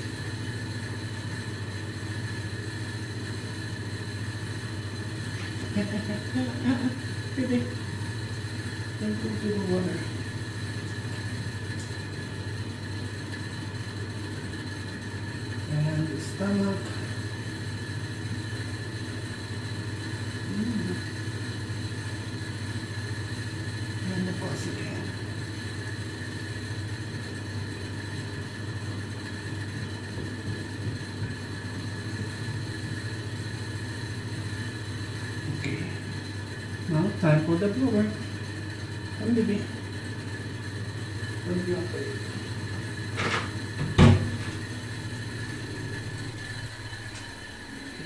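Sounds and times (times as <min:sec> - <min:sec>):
low machine hum: 0:00.0 - 0:48.0.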